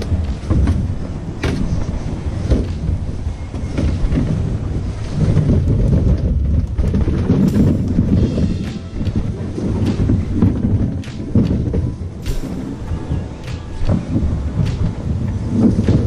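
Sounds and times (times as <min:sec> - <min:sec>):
knocks and rustles in brush: 0:00.0 - 0:16.0
low rumbling noise: 0:00.0 - 0:16.0.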